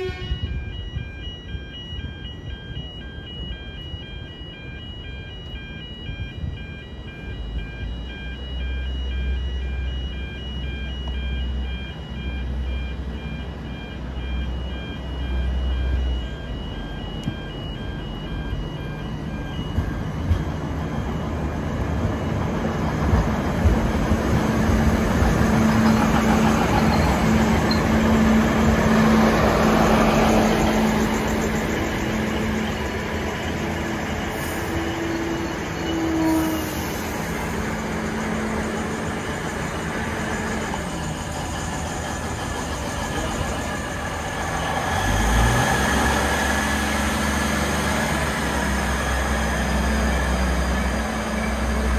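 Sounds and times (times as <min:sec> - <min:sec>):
diesel engine drone: 0:00.0 - 0:51.9
level crossing warning bells: 0:00.0 - 0:51.9.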